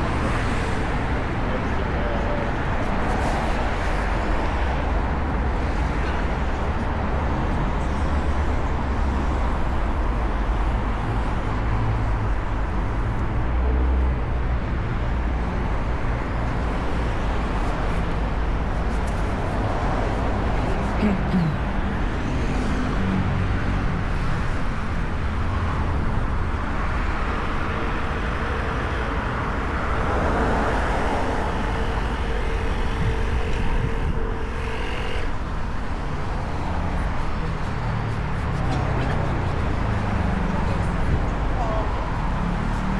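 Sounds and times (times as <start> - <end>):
city street traffic: 0.0 - 42.9
faint vehicle hum: 0.0 - 42.9.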